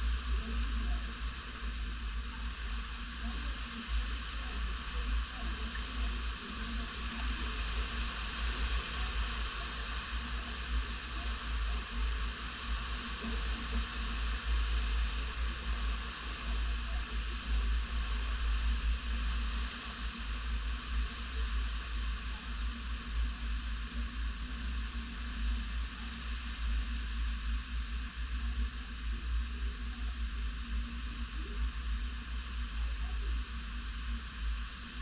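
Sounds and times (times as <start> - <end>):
wind hiss: 0.0 - 35.0.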